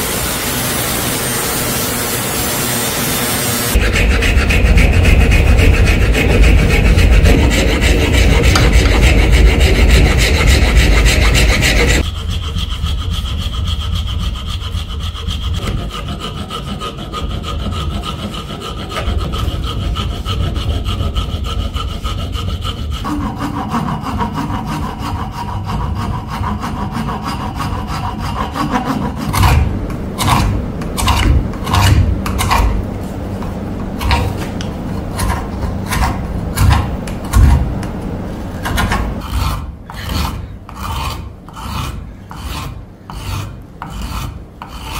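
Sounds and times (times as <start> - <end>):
loud rough rubbing on wood: 0.0 - 44.9
quiet steady running tool hum: 0.0 - 44.9
tool strokes on wood: 0.0 - 44.9.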